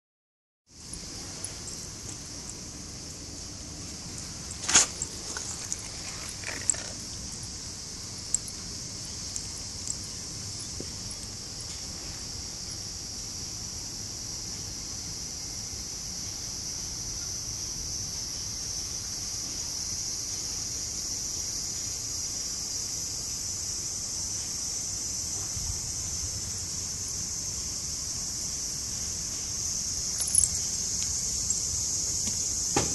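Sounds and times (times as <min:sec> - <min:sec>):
high-pitched insect drone: 0:00.8 - 0:32.9.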